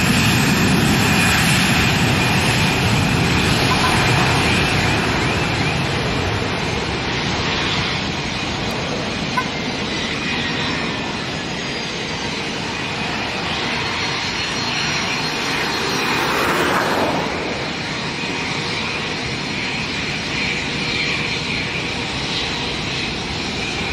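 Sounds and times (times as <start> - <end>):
jet engines at takeoff: 0.0 - 23.9.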